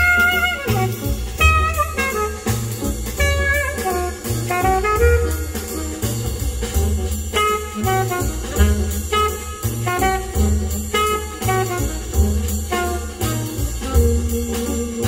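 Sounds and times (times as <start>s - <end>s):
jazz on car stereo: 0.0s - 15.0s.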